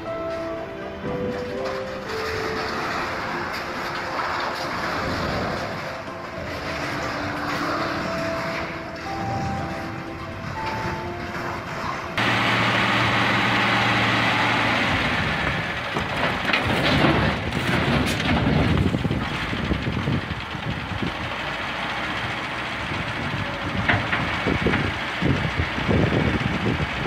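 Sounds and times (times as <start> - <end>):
truck engine running under load: 0.0 - 27.0.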